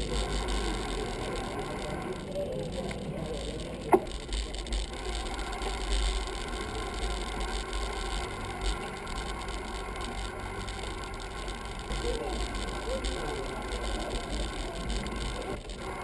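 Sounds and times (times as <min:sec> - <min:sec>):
bicycle tyres rolling on stone: 0:00.0 - 0:16.0.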